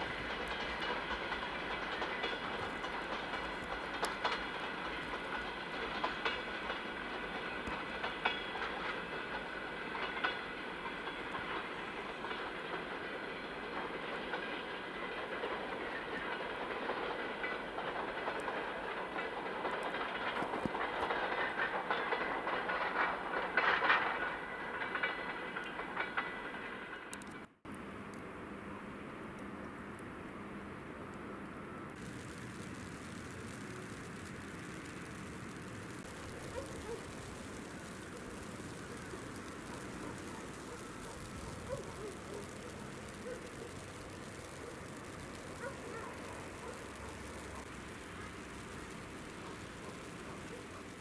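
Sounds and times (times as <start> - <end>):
freight train wheels clicking: 0.0 - 28.3, 31.1 - 51.0.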